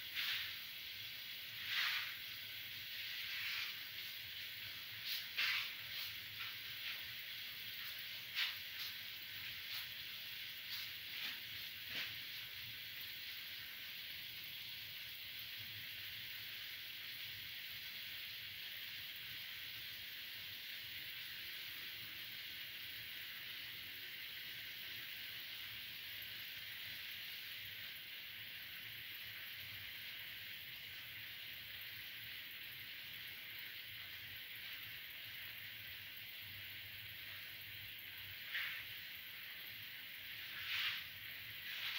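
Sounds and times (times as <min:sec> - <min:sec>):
oil sizzling: 0:00.0 - 0:41.9.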